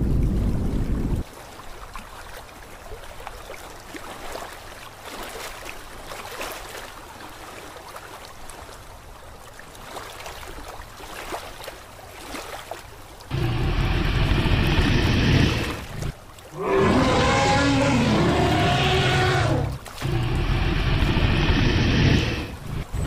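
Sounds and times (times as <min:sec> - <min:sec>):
sea water sloshing and splashing: 0:00.0 - 0:23.0.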